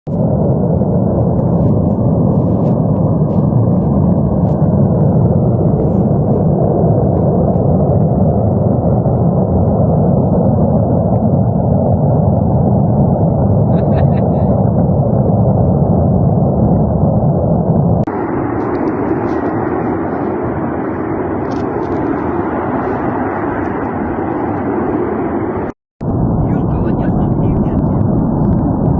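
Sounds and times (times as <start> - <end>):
roar of burning gas: 0.1 - 28.9.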